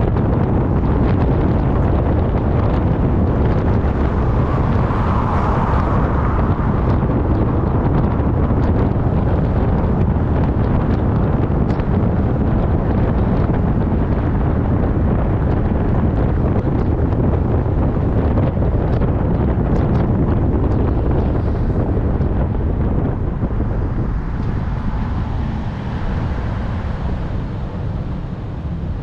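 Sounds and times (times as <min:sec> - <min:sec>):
moving car rumble: 0:00.0 - 0:29.0
wind buffeting microphone: 0:00.0 - 0:29.0.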